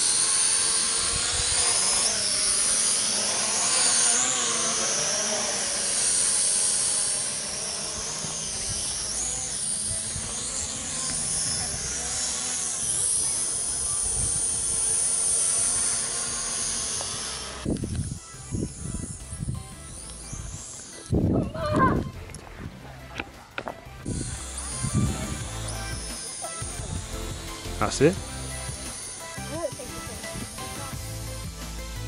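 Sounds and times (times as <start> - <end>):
toy drone propellers whining: 0.0 - 22.4, 23.5 - 32.0.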